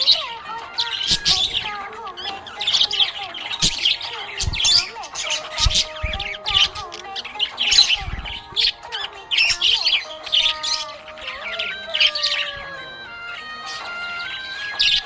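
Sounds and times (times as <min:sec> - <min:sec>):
budgerigars chirping and squawking: 0:00.0 - 0:15.0.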